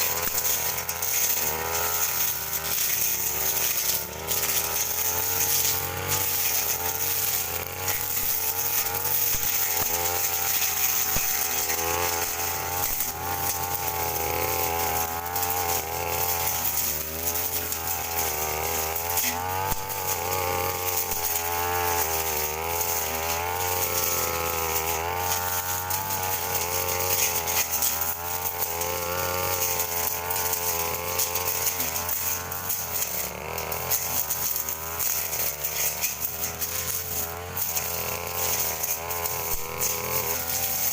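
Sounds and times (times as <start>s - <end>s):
brush cutter cutting grass: 0.0s - 40.9s.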